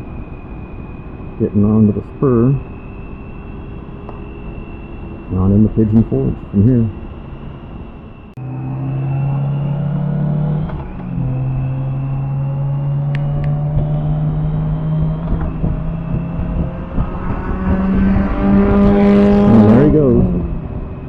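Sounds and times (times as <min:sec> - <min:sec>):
higher engine note: 0:00.0 - 0:21.0.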